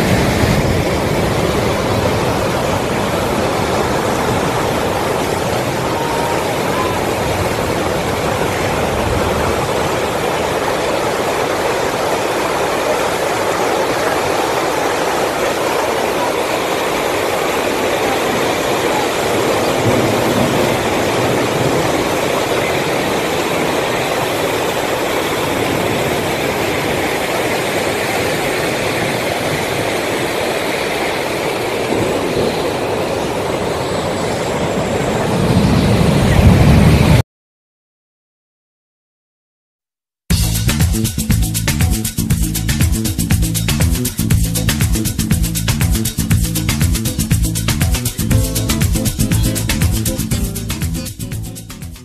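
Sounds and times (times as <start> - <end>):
floodwater rushing: 0.0 - 37.2, 40.3 - 52.0.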